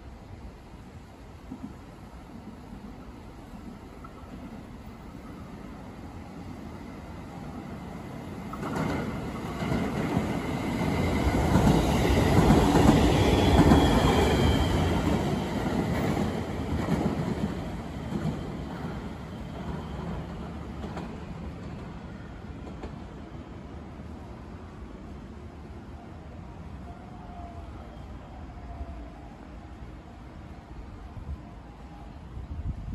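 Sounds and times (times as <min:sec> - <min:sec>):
electric train passing: 0:00.4 - 0:32.9.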